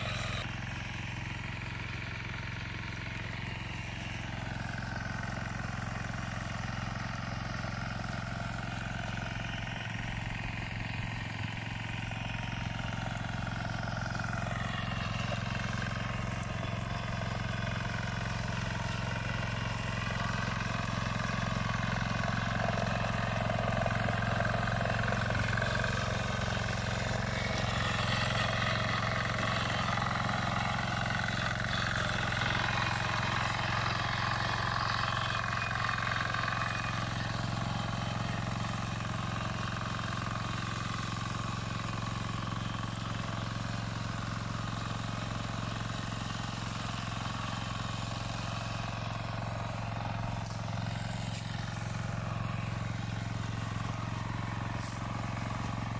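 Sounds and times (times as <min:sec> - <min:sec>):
tiller engine running: 0:00.0 - 0:55.9.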